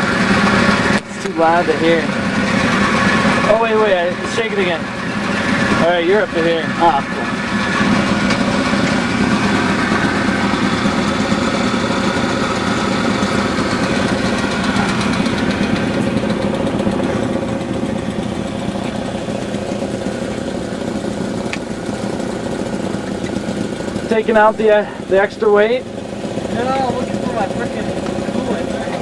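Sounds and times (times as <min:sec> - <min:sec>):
moped engine idling: 0:00.0 - 0:29.0.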